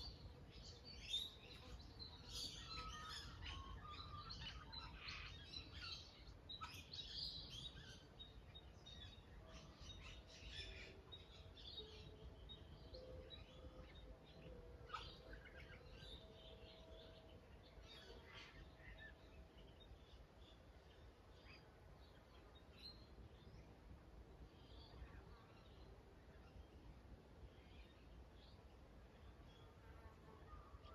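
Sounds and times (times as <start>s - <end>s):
birds chirping and twittering: 0.0s - 30.9s.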